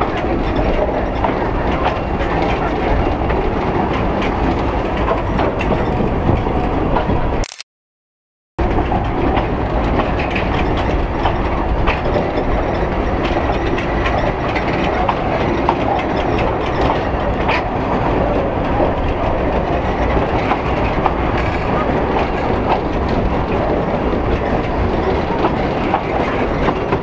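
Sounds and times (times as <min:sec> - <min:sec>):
train carriage rumble: 0:00.0 - 0:07.4, 0:08.6 - 0:27.0
wheels clicking over rail joints: 0:00.0 - 0:07.4, 0:08.6 - 0:27.0.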